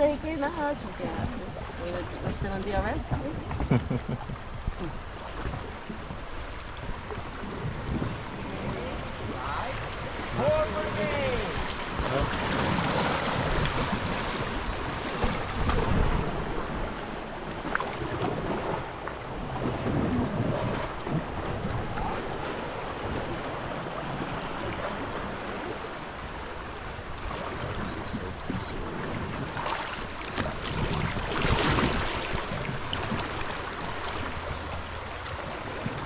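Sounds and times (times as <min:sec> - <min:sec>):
river water rushing and splashing: 0:00.0 - 0:36.0
wind buffeting microphone: 0:00.0 - 0:36.0.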